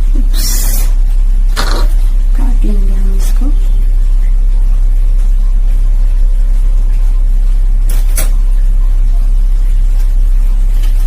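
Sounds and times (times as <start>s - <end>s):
loud low hum: 0.0s - 10.8s.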